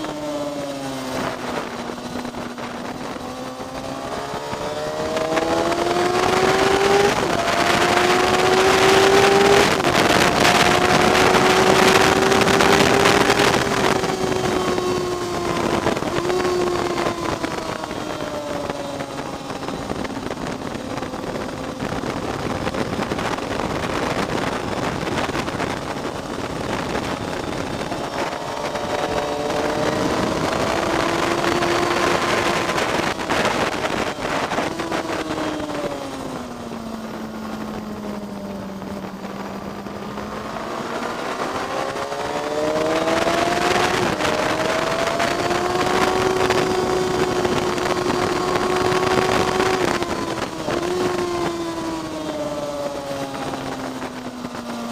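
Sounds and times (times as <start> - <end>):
car engine at full throttle: 0.0 - 54.9
wind rush: 0.0 - 54.9.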